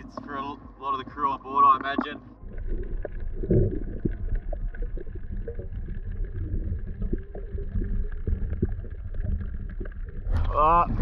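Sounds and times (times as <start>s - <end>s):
low rumble of moving water: 0.0s - 11.0s.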